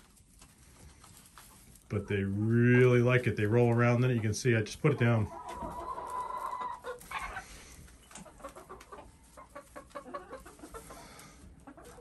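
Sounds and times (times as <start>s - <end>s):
birds scratching and pecking: 0.0s - 12.0s
hens clucking: 0.0s - 12.0s.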